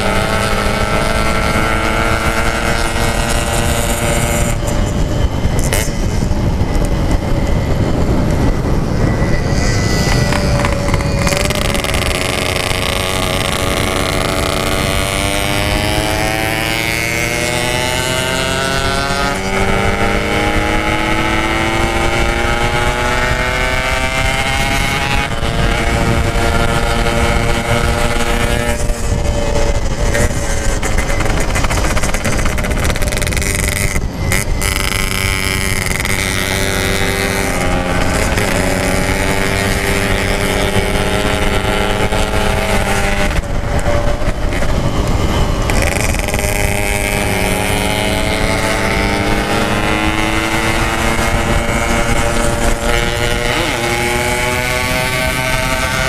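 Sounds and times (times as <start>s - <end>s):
two-stroke motorcycle engine accelerating: 0.0s - 56.0s.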